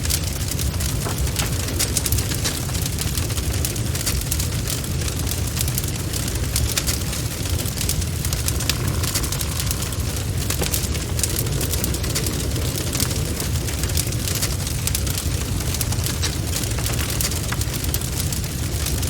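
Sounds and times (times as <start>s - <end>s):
bonfire crackling and popping: 0.0s - 19.0s
low rumble of fire: 0.0s - 19.0s.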